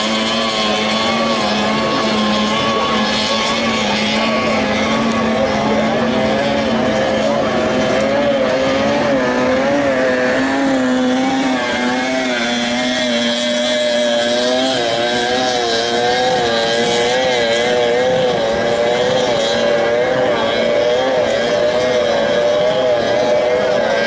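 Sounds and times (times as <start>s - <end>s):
lower engine note: 0.0s - 24.0s
outboard engines racing: 0.0s - 24.0s.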